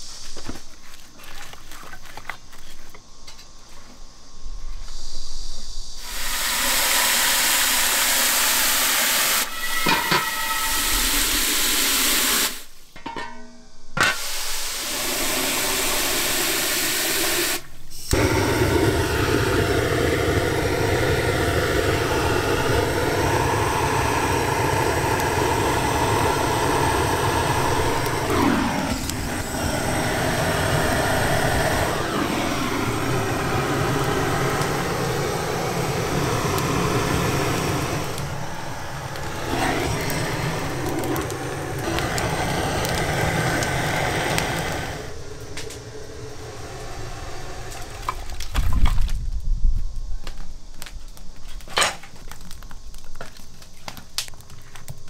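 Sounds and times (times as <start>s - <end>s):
steam and fire hissing: 0.0s - 0.9s, 3.2s - 12.9s, 14.0s - 49.4s.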